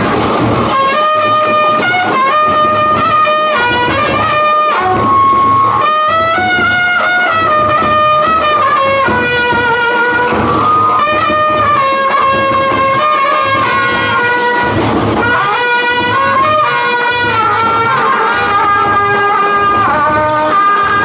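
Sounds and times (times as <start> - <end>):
bass drums and hand drums: 0.0 - 21.0
trumpet melody: 0.0 - 21.0.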